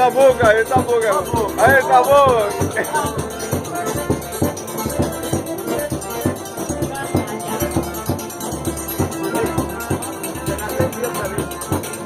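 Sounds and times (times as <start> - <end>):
low drum beat: 0.0 - 12.0
rattling shaker percussion: 0.0 - 12.0.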